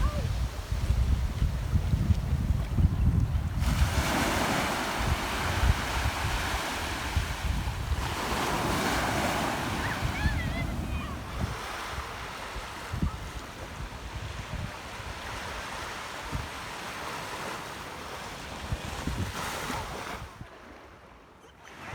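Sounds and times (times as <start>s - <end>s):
wind buffeting microphone: 0.0s - 16.6s, 18.6s - 20.4s
ocean waves on a beach: 0.0s - 21.9s.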